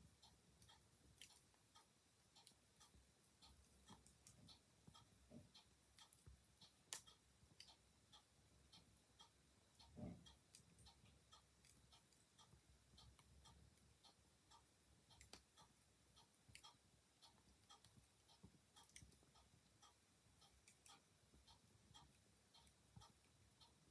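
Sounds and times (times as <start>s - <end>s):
clock ticking: 0.0s - 23.9s.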